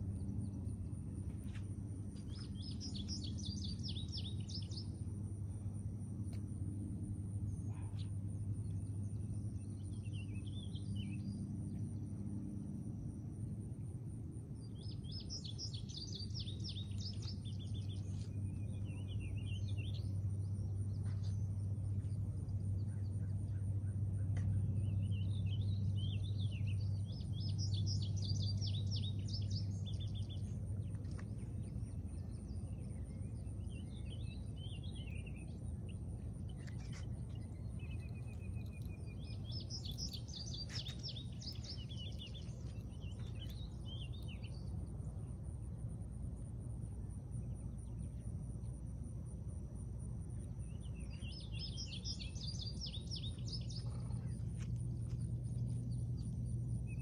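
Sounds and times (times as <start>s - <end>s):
bird singing: 0.0s - 57.0s
steady low hum: 0.0s - 57.0s.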